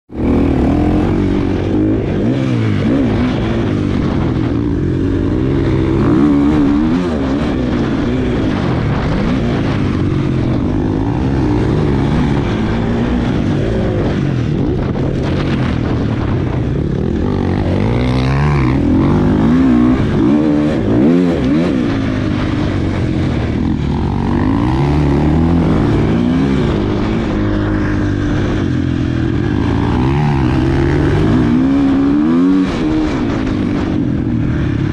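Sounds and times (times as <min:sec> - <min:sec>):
motocross engine revving: 0:00.1 - 0:34.9.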